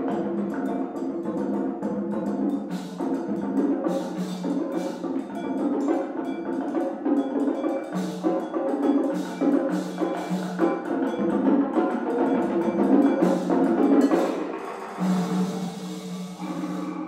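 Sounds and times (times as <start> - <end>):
hand percussion playing fast: 0.0 - 17.0.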